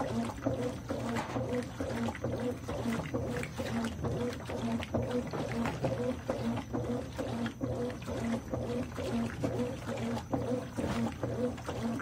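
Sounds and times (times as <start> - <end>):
washing machine motor humming: 0.0 - 12.0
water churning: 0.0 - 12.0.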